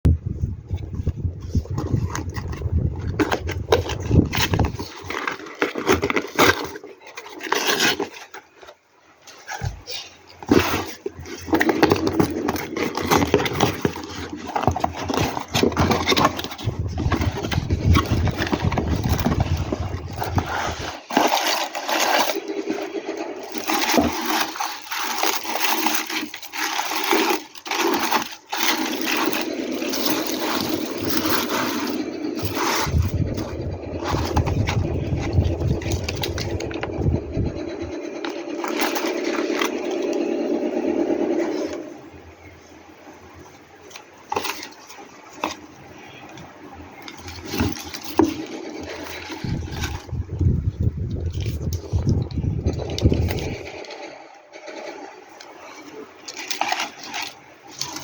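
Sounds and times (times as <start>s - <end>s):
plastic and cardboard packaging rustling: 0.2s - 58.0s.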